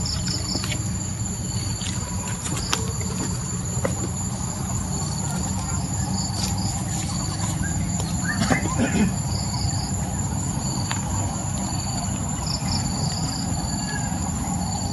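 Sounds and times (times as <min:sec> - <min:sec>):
insects chirping: 0:00.0 - 0:14.9
steady rushing noise: 0:00.0 - 0:14.9.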